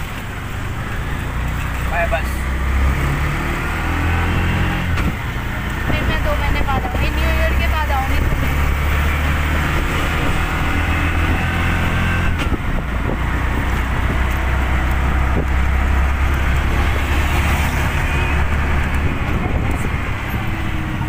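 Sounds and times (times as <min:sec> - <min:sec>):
auto-rickshaw engine droning: 0:00.0 - 0:21.0
road and wind noise: 0:00.0 - 0:21.0.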